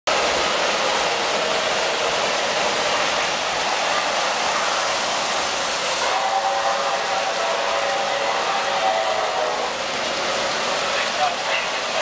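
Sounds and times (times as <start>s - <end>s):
model train whirring on track: 0.1s - 12.0s.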